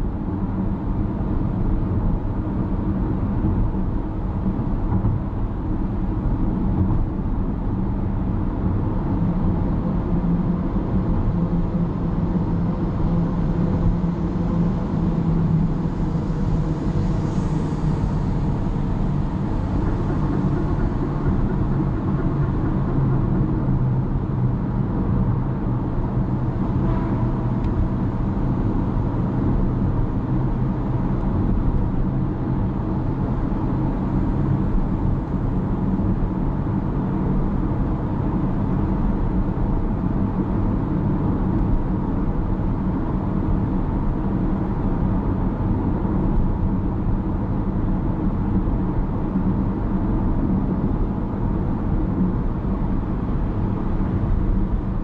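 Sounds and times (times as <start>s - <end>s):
car engine drone: 0.0s - 55.0s.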